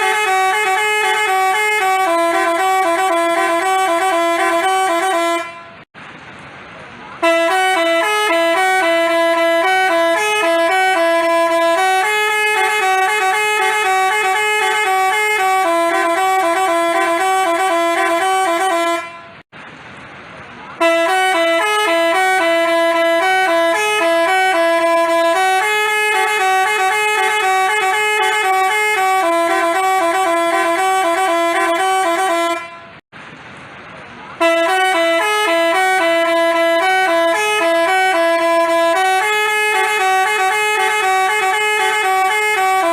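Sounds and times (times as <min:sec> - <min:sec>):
bus horn playing a tune: 0:00.0 - 0:05.9, 0:07.2 - 0:19.5, 0:20.8 - 0:33.0, 0:34.4 - 0:42.9.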